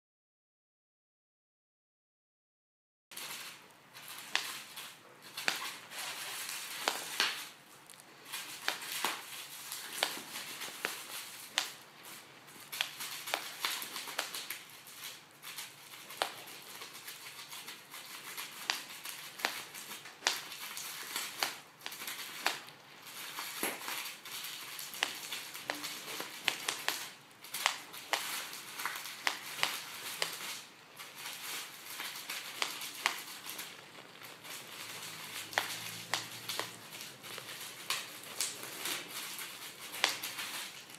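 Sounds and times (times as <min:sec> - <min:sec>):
bubble wrap crinkling: 0:03.1 - 0:40.9
bubble wrap popping: 0:03.1 - 0:40.9.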